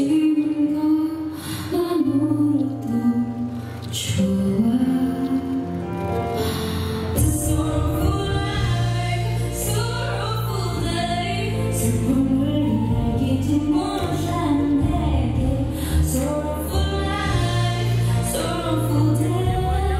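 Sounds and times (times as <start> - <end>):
song with sung melody: 0.0 - 19.9.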